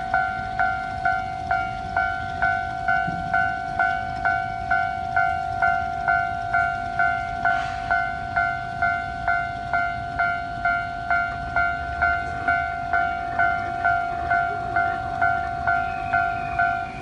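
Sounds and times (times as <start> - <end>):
level crossing bell ringing: 0.0 - 17.0.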